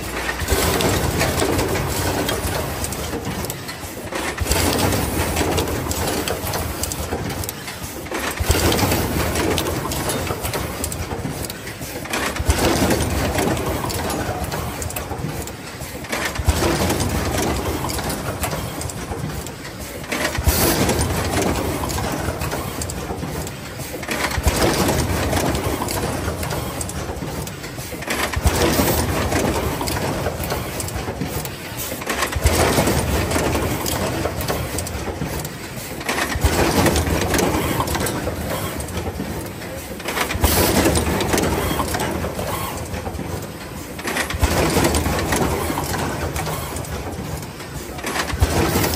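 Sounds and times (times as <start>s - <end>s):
crimping machine running: 0.0s - 48.9s.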